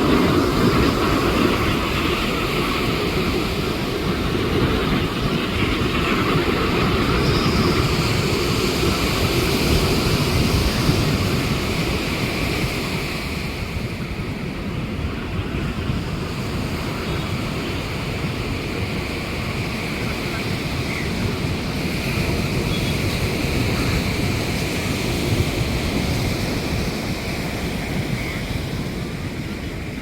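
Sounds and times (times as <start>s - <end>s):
jet airliner passing: 0.0s - 30.0s
wind on microphone: 0.0s - 30.0s.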